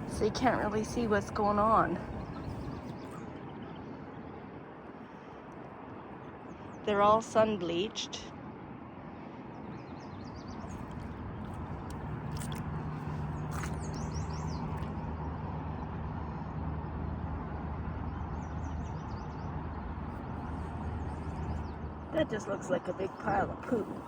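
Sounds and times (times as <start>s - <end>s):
distant vehicle engine drone: 0.0s - 8.7s, 10.2s - 24.0s.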